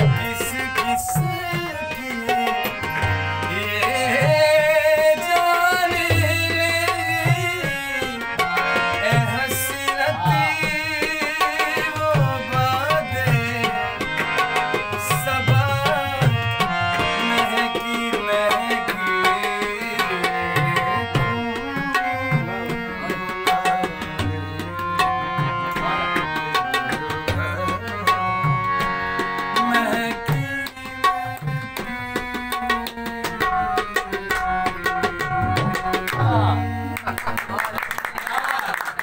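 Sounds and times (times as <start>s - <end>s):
harmonium melody: 0.0s - 38.2s
tabla rhythm: 0.0s - 39.0s.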